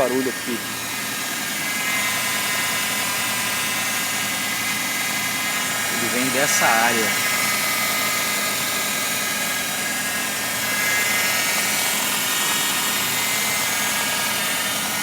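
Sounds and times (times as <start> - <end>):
engine whirring whine: 0.0 - 15.0.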